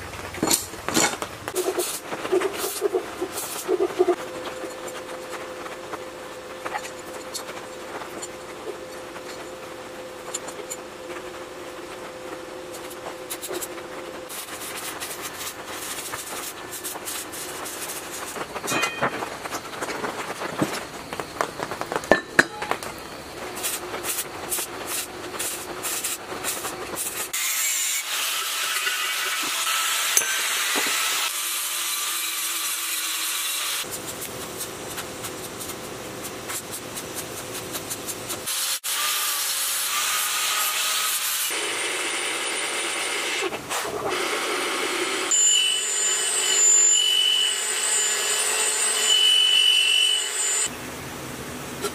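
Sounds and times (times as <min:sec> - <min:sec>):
arc welding crackling hiss: 0:00.0 - 0:45.4.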